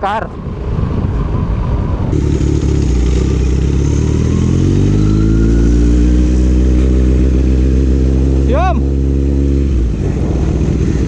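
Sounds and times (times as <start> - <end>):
motorcycle engine revving: 2.1 - 11.0.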